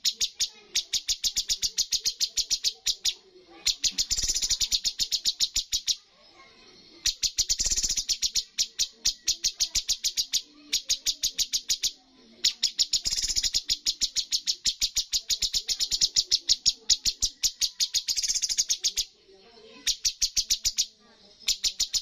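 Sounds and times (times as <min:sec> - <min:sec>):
bird singing rapid repeated notes: 0:00.0 - 0:22.0.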